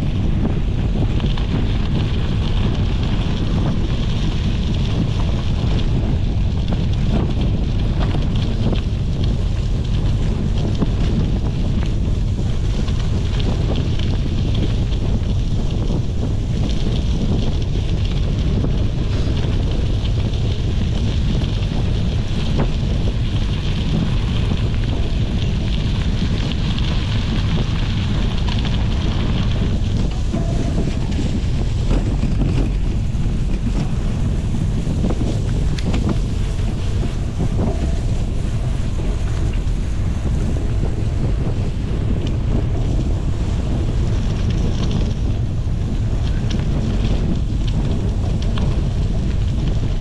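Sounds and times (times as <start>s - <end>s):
wind buffeting microphone: 0.0s - 50.0s
faint bike ticks: 0.2s - 50.0s.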